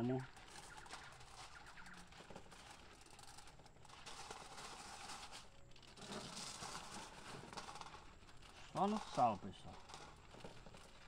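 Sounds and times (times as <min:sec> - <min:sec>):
plastic and foil crinkling: 0:00.3 - 0:11.0.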